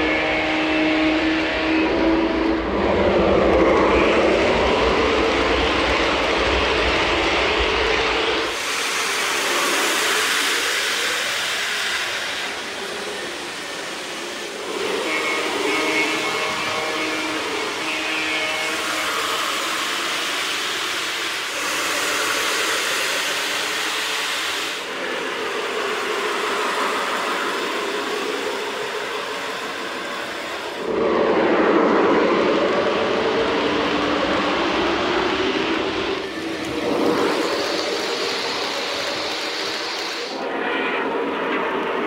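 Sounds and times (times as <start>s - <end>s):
toy train wheels rumbling on rail: 3.4s - 30.9s, 32.6s - 40.5s.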